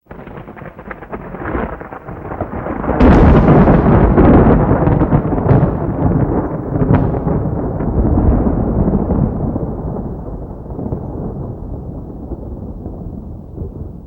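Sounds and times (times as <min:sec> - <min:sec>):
thunder rumbling and cracking: 0:00.0 - 0:14.0.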